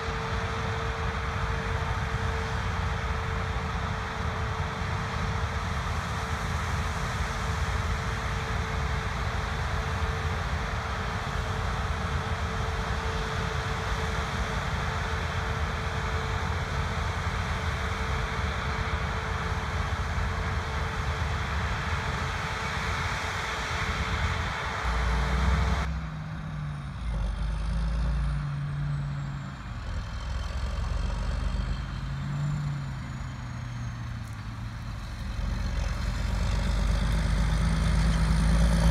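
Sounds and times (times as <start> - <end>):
heavy machinery running with whine: 0.0 - 38.9.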